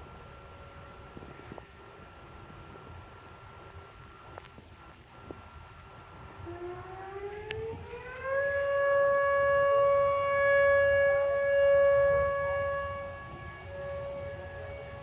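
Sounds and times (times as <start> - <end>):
warning siren steady tone: 0.0 - 4.3, 5.2 - 15.0.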